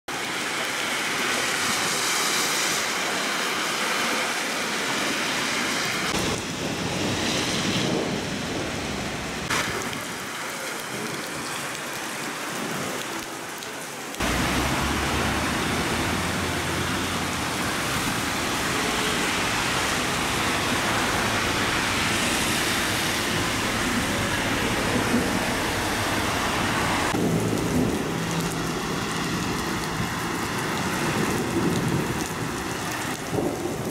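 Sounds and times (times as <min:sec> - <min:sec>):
heavy rain on a street: 0:00.1 - 0:33.9
vehicles driving through water: 0:00.1 - 0:33.9.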